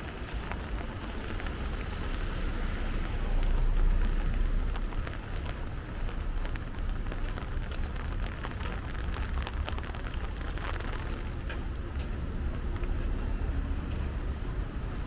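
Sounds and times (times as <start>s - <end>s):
low rumble: 0.0s - 15.0s
steady rain falling: 0.0s - 15.0s.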